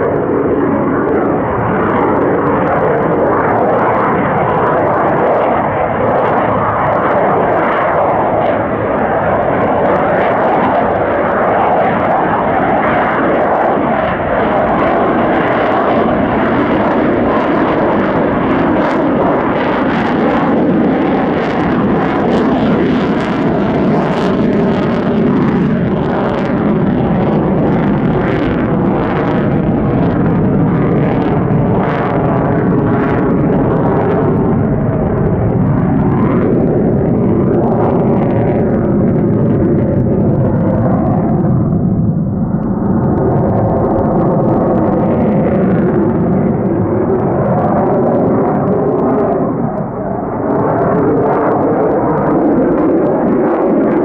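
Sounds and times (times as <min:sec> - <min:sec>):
loud jet noise: 0:00.0 - 0:54.0.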